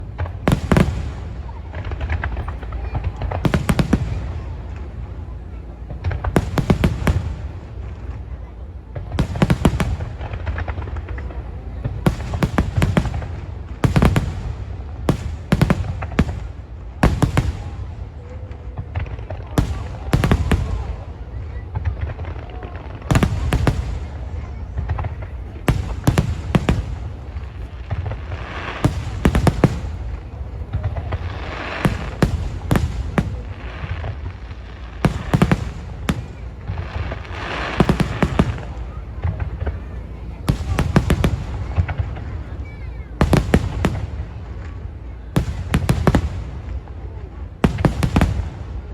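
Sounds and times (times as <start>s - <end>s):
continuous low rumble: 0.0s - 48.9s
fireworks bursting: 0.0s - 48.9s
steady background hiss: 0.0s - 48.9s.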